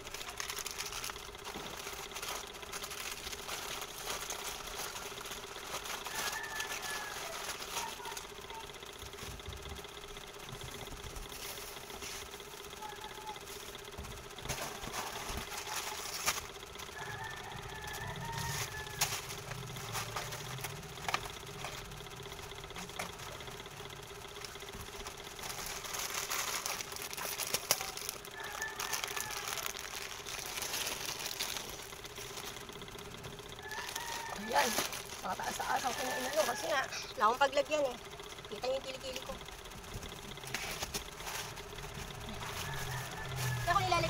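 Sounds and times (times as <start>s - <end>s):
plastic wrappers rustling: 0.0s - 9.5s, 10.5s - 37.8s, 39.0s - 44.0s
steady hum: 0.0s - 44.0s.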